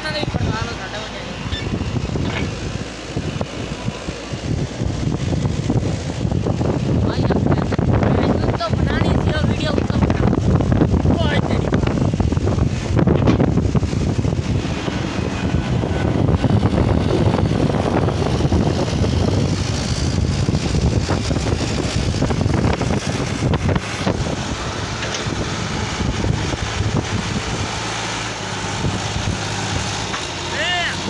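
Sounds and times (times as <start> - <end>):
diesel tractor engine under load: 0.0 - 31.0
wind buffeting microphone: 0.0 - 31.0.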